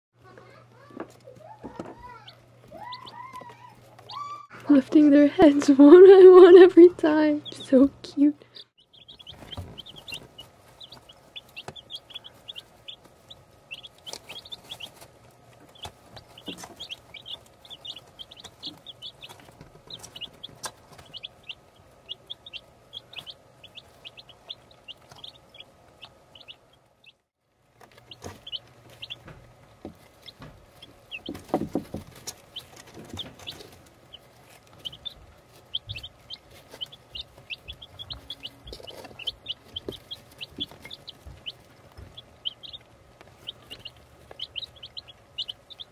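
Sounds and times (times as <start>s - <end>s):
baby chicks peeping: 0.2s - 45.9s.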